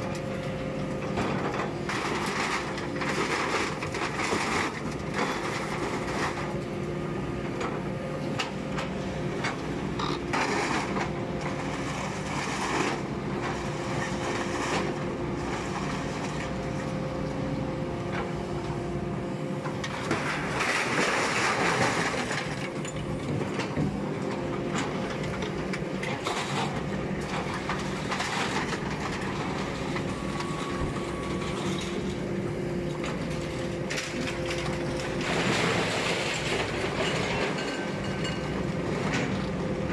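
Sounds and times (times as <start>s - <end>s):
heavy machinery humming: 0.0s - 39.9s.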